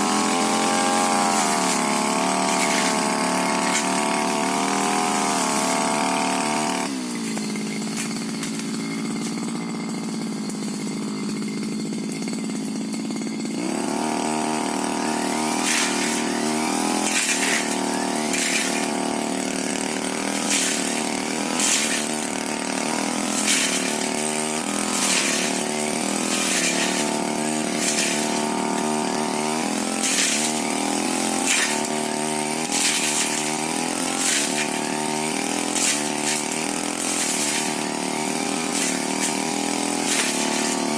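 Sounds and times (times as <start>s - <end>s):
brush cutter engine: 0.0s - 40.9s.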